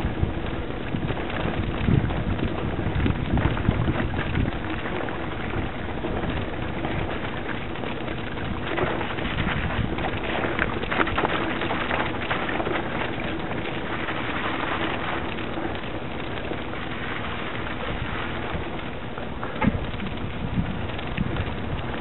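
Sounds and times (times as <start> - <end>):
bike rattling: 0.0 - 22.0
bike tyres crackling over stones: 0.0 - 22.0
wind buffeting microphone: 0.0 - 22.0.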